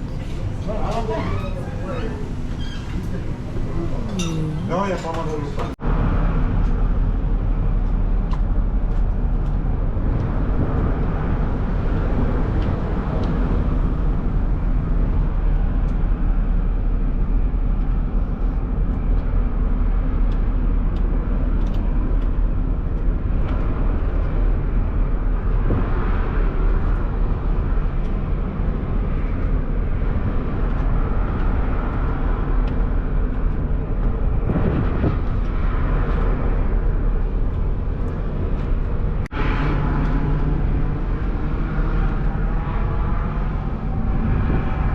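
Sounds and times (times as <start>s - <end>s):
engine running low rumble: 0.0s - 44.9s.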